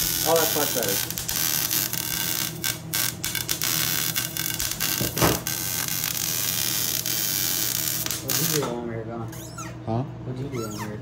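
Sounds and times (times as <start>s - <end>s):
welding arc crackling: 0.0s - 8.8s
welder electrical hum: 0.0s - 11.0s.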